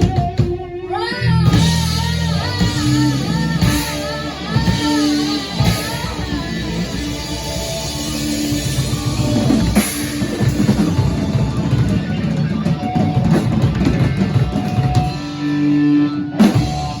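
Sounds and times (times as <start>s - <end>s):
rock band playing loudly: 0.0s - 17.0s.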